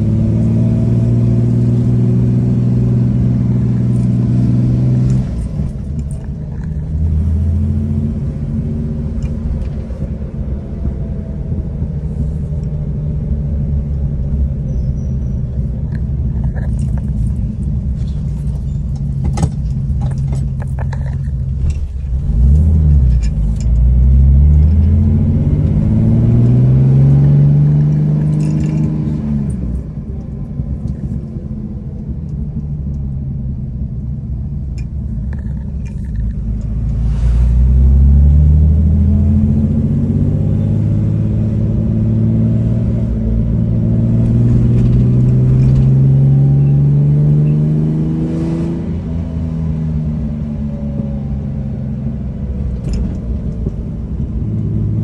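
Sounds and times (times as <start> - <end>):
car engine running from cabin: 0.0 - 55.0.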